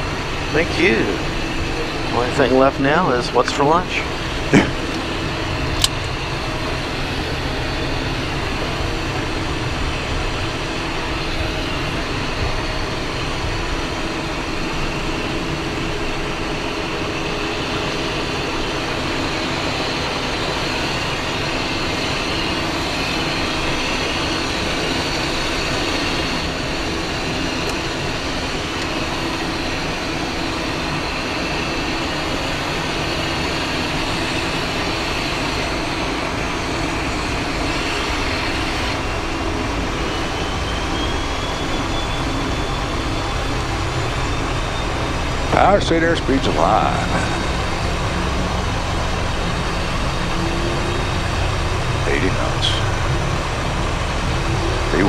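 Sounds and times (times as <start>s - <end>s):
jet engines whining in cockpit: 0.0s - 55.0s.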